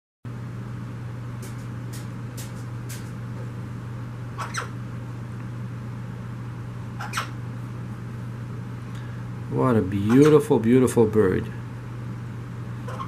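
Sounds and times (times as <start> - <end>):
constant low hum: 0.3 - 13.0.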